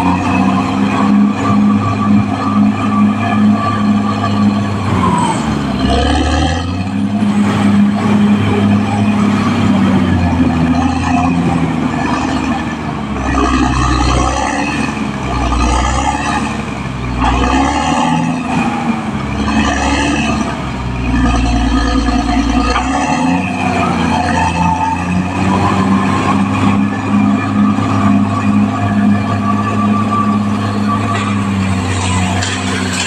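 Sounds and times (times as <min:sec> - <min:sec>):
bulldozer diesel engine under load: 0:00.0 - 0:33.0.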